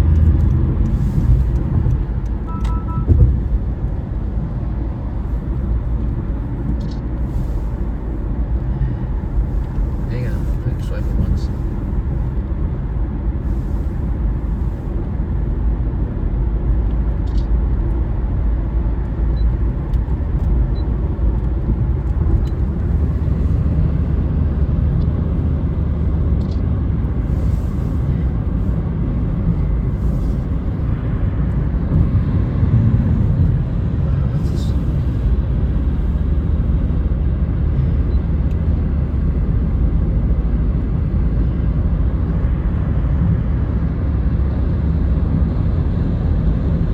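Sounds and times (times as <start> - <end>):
car road and wind noise: 0.0 - 46.9.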